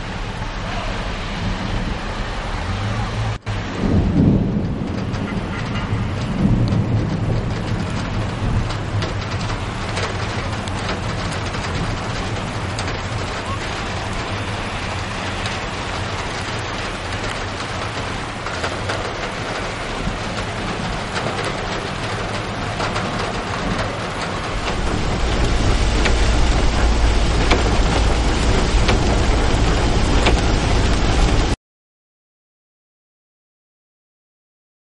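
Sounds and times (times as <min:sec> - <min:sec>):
deep rumble: 0:00.0 - 0:31.6
heavy rain pouring: 0:00.0 - 0:31.6.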